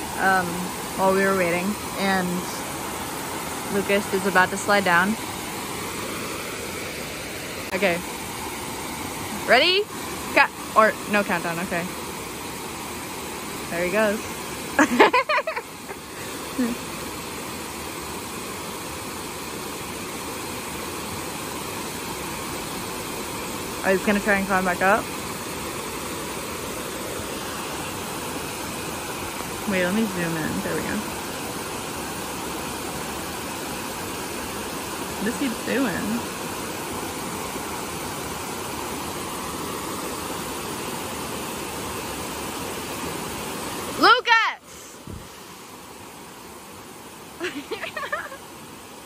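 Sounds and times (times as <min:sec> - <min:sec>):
water rushing over waterfall: 0:00.0 - 0:49.0.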